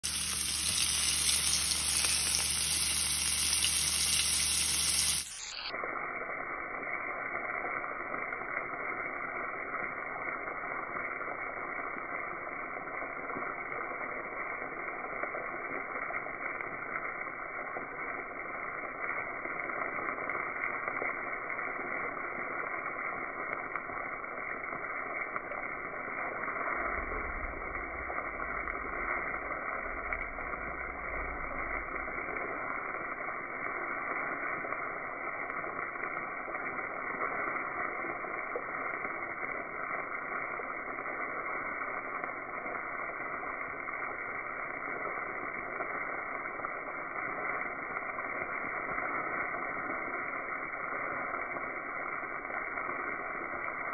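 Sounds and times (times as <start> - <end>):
mushrooms sizzling in a skillet: 0.0 - 5.6, 6.2 - 53.9.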